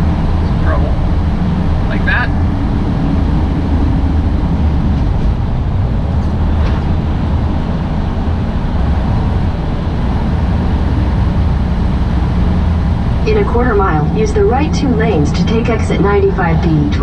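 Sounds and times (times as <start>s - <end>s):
truck engine and road rumble: 0.0s - 17.0s.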